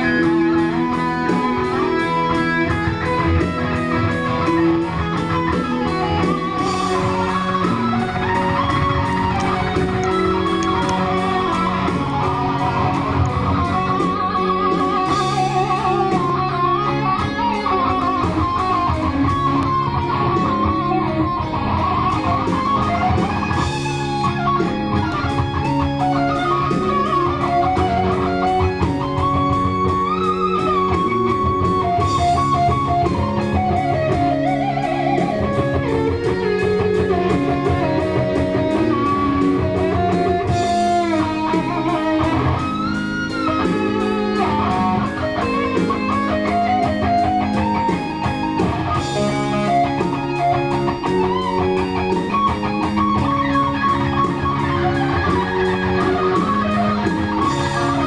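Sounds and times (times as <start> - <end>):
electric guitar playing fast runs: 0.0 - 58.0.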